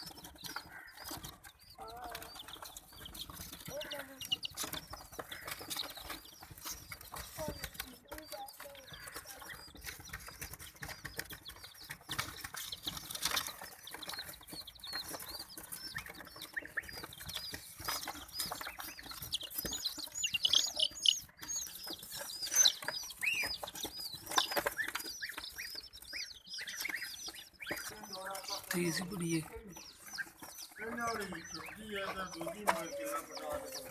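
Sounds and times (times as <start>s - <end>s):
chicks and ducklings peeping: 0.0s - 33.9s.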